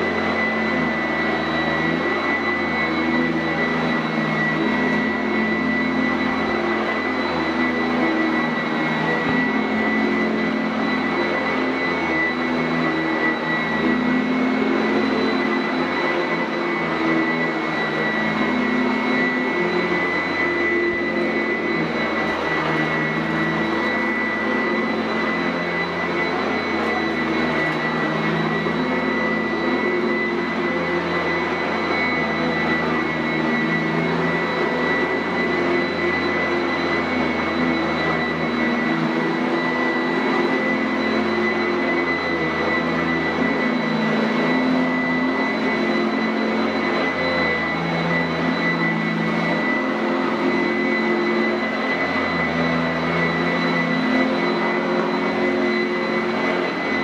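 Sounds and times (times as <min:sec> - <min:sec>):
vacuum cleaner motor whining: 0:00.0 - 0:57.0.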